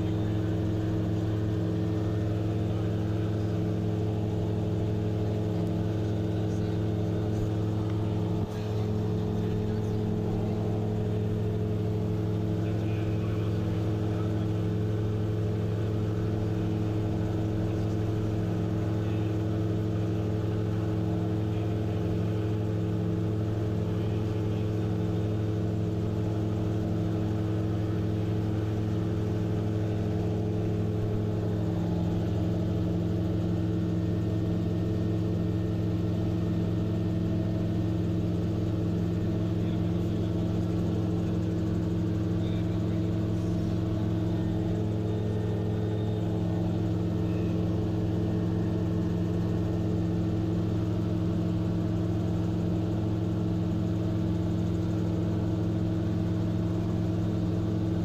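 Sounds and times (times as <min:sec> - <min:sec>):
aircraft engine droning: 0:00.0 - 0:58.0.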